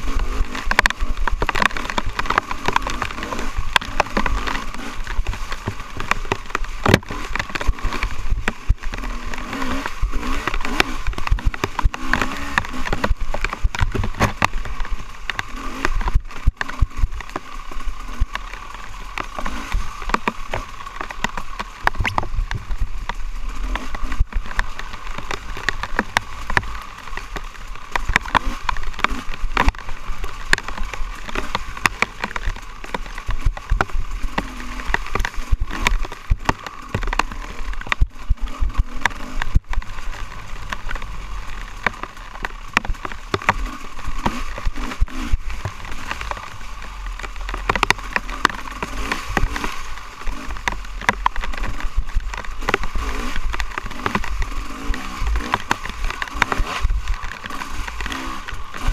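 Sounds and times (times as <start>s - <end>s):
bike knocking and rattling: 0.0s - 58.9s
dirt bike engine revving: 0.0s - 58.9s.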